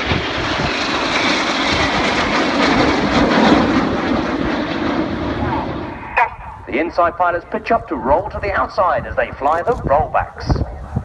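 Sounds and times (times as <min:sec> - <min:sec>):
jet roar flypast: 0:00.0 - 0:11.0.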